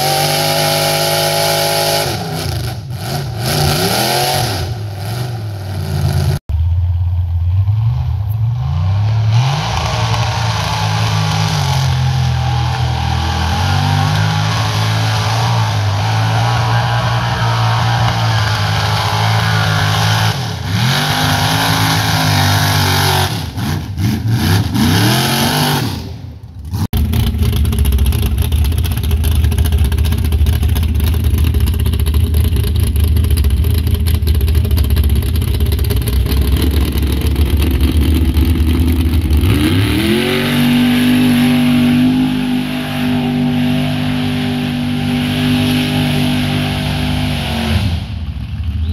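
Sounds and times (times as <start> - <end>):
truck engine revving: 0.0 - 6.5, 7.4 - 48.9
tires spinning and throwing mud: 8.0 - 48.9.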